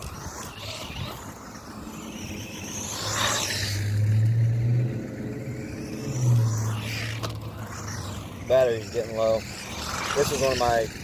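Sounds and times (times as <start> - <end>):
toy truck electric motor whining: 0.0 - 11.0.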